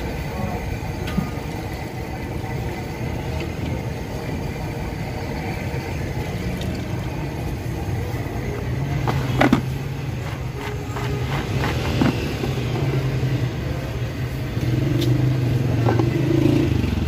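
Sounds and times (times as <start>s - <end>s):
low street traffic rumble: 0.0s - 17.0s.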